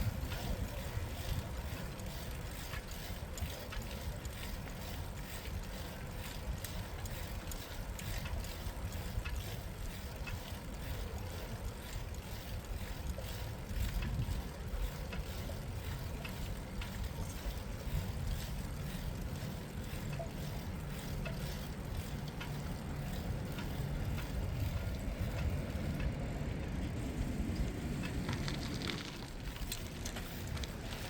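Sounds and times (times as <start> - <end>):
bicycle tyre noise: 0.0 - 31.0
light clicks and rattles: 0.0 - 31.0
wind rumble on microphone: 0.0 - 31.0.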